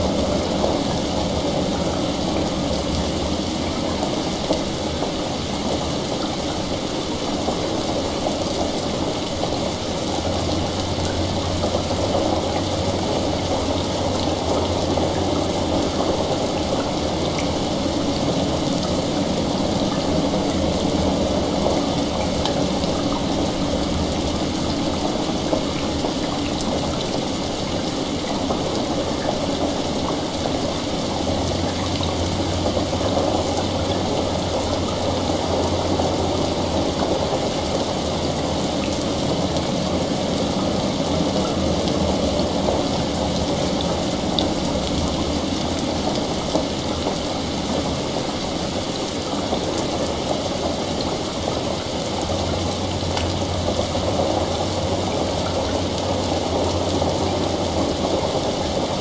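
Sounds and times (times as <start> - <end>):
heavy rain: 0.0 - 59.0
running water: 0.0 - 59.0.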